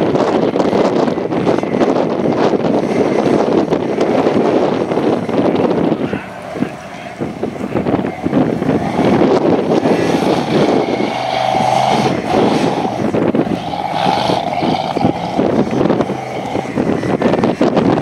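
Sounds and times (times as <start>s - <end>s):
buggy engine revving hard: 0.0s - 18.0s.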